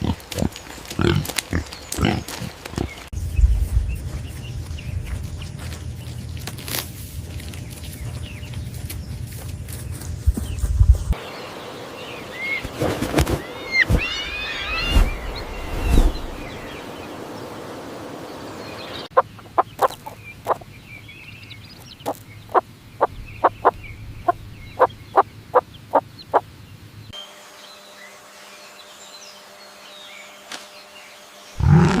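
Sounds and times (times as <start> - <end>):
outdoor ambience: 0.0 - 32.0.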